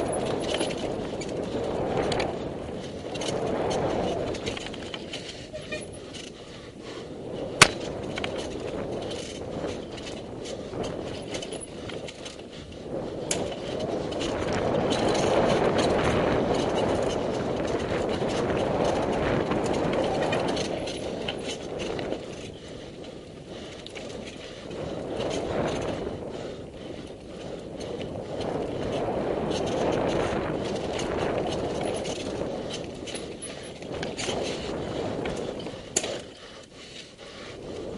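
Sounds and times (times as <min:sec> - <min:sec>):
bike clicks and rattles: 0:00.0 - 0:37.9
bike tyres rolling on dirt: 0:00.0 - 0:37.9.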